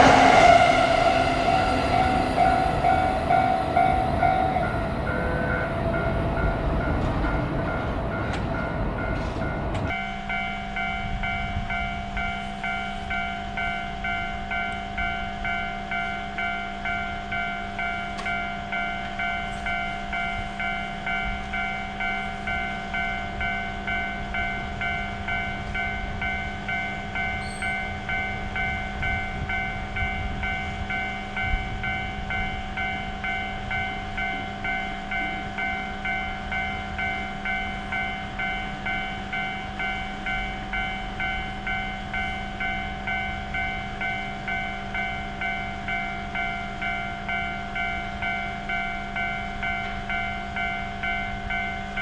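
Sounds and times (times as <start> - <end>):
railroad crossing alarm ringing: 0.0 - 52.0
train rumbling: 0.0 - 52.0.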